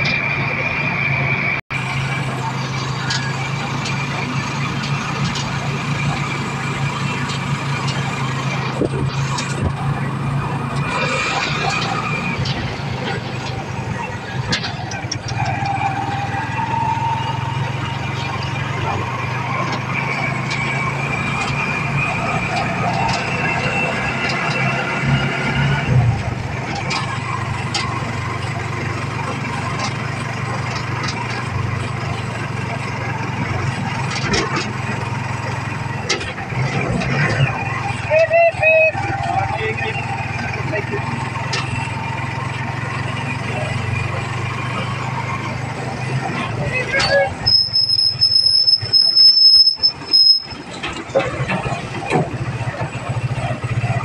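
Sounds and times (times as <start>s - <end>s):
road and wind noise: 0.0s - 54.0s
vehicle engine humming: 0.0s - 54.0s.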